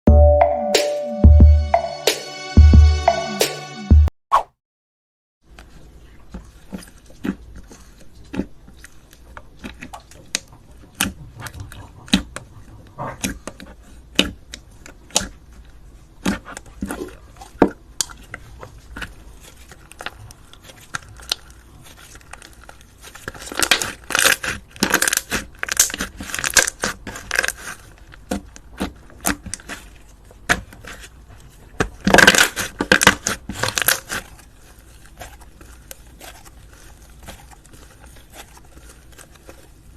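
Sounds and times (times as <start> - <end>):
crunchy slime crackling and popping: 5.7 - 39.9.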